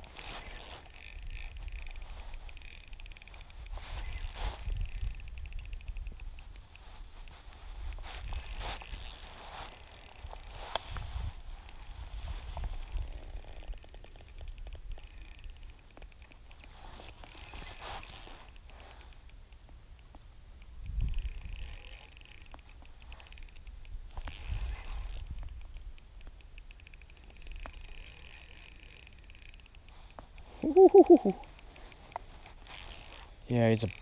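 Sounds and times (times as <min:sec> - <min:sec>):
fishing reel clicking: 0:00.0 - 0:34.0.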